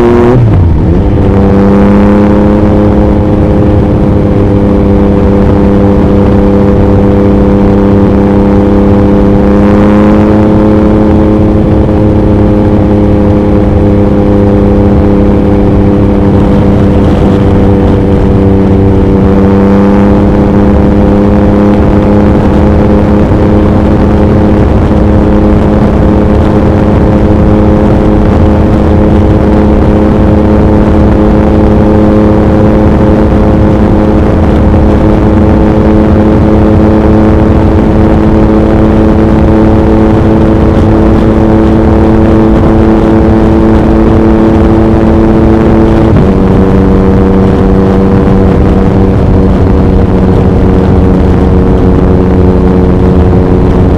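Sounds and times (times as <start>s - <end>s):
motorcycle engine cruising: 0.0s - 53.9s
wind noise on microphone: 0.0s - 53.9s.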